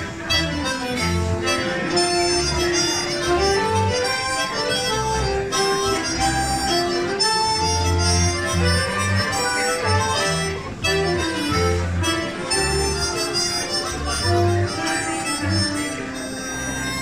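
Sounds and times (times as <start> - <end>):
folk band playing dance music: 0.0 - 17.0.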